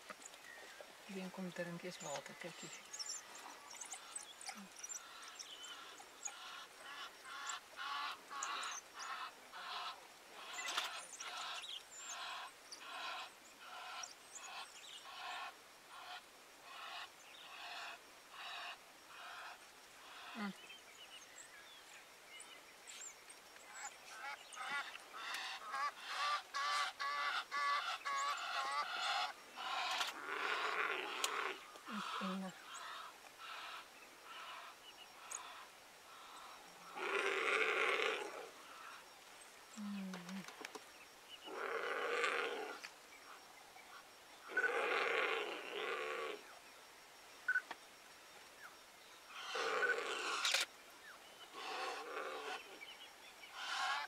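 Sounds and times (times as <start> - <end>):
wild dogs chirping calls: 2.0 - 20.8, 23.6 - 40.6, 41.3 - 46.6, 48.6 - 54.0.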